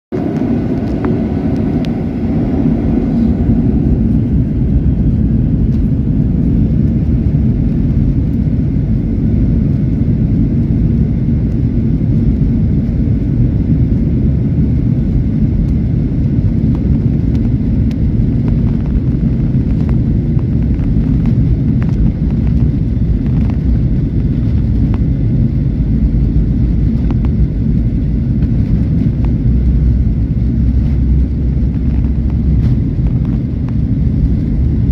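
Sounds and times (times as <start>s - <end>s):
jet engines rumbling: 0.1s - 34.9s.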